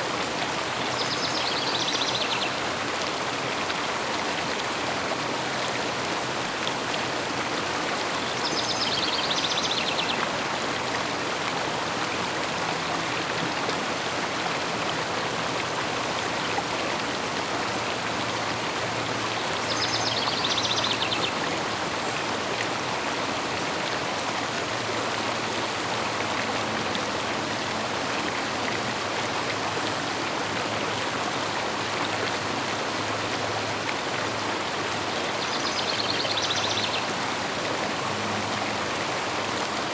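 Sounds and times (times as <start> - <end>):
flowing river rushing: 0.0 - 39.9.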